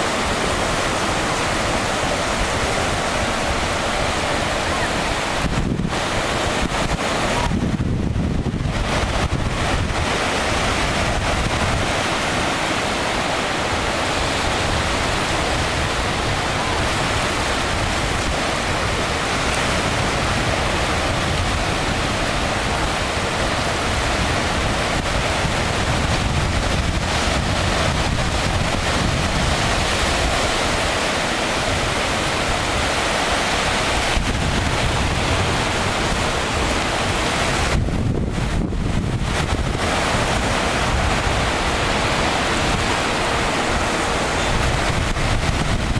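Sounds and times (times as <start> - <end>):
surf breaking on beach: 0.0 - 45.9
wind on microphone: 0.0 - 45.9.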